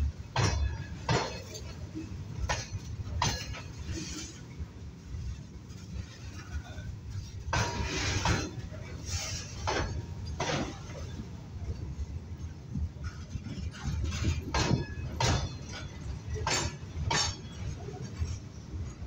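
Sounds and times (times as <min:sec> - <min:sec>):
train wheels rumbling on rail: 0:00.0 - 0:19.0
metallic clanking and scraping: 0:00.3 - 0:04.6, 0:05.2 - 0:11.3, 0:12.4 - 0:19.0.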